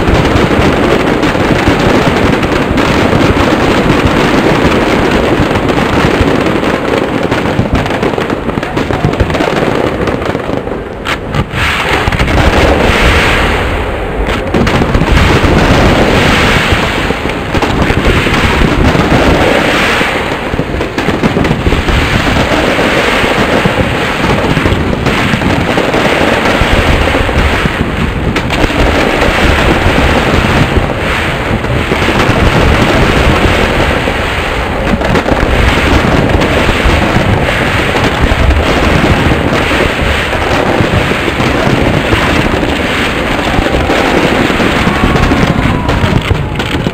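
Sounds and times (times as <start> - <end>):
firework shells bursting: 0.0 - 46.9.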